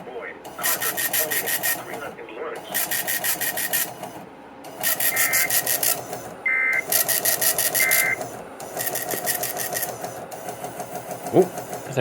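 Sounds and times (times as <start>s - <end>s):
printer rattling: 0.0s - 12.0s.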